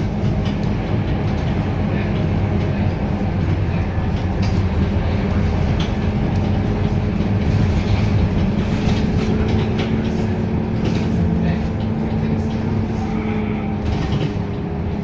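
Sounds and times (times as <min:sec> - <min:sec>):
bus body rattles and clicks: 0:00.0 - 0:15.0
bus diesel engine running: 0:00.0 - 0:15.0.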